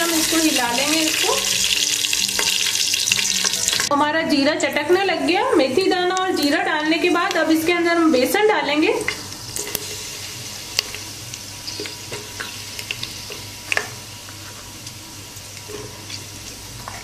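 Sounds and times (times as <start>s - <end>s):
hot oil sizzling: 0.0s - 4.0s, 5.2s - 17.0s.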